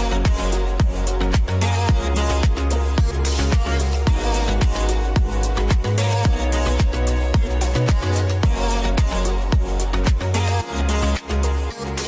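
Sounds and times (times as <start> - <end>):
dance music with deep bass: 0.0 - 12.0.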